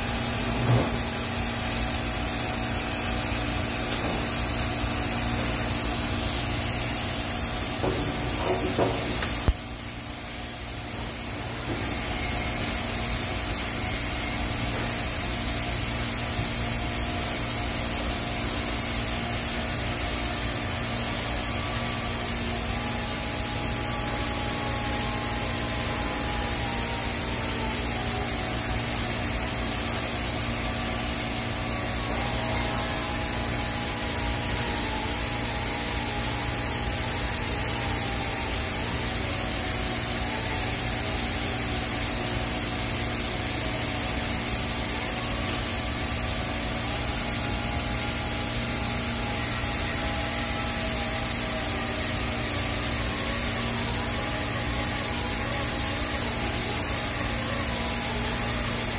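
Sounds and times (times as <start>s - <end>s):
welding arc hiss: 0.0s - 58.9s.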